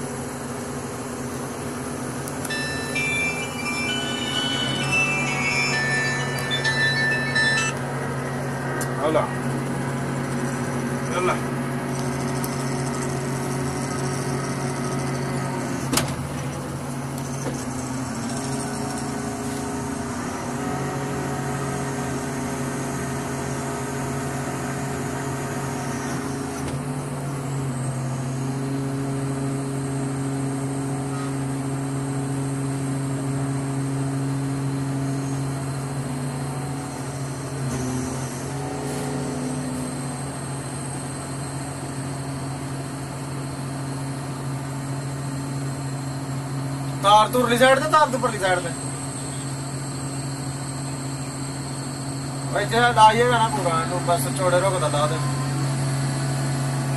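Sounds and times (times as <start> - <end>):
crane diesel engine under load: 0.0 - 56.9.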